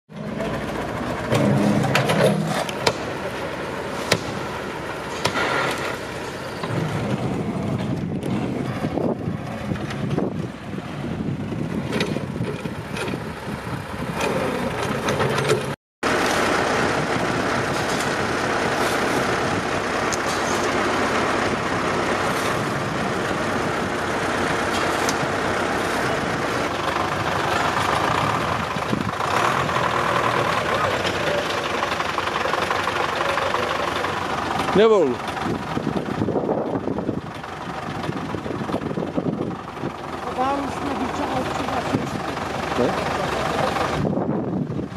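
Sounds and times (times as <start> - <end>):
vehicle engine running: 0.1 - 44.9.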